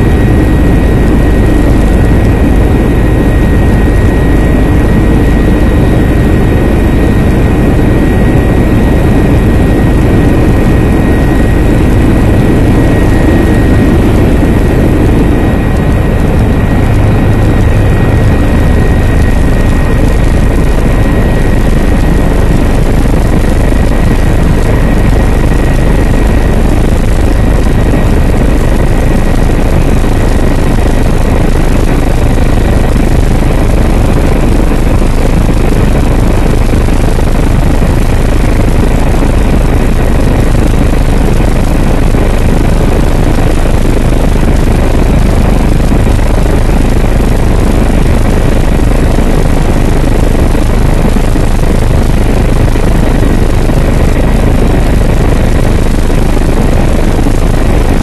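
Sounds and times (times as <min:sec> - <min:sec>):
helicopter rotor and engine: 0:00.0 - 0:58.0
high whine: 0:00.0 - 0:58.0.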